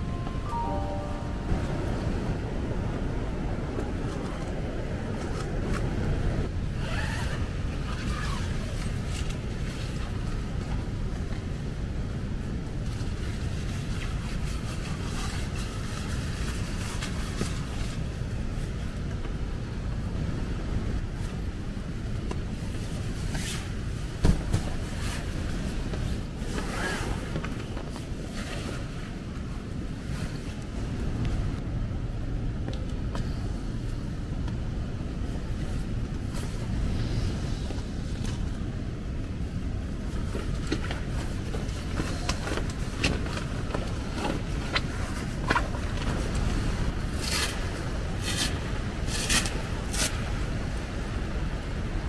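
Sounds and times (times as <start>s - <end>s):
heavy rain and wind: 0.0s - 52.0s.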